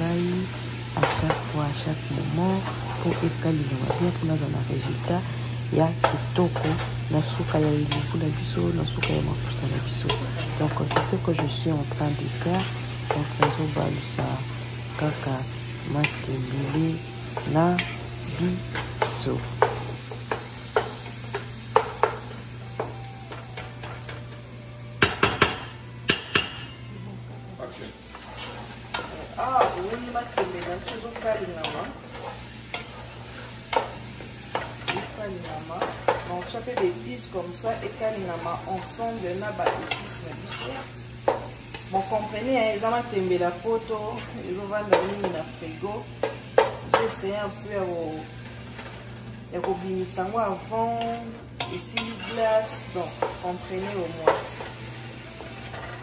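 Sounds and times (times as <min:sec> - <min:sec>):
leaves sizzling in oil: 0:00.0 - 0:56.0.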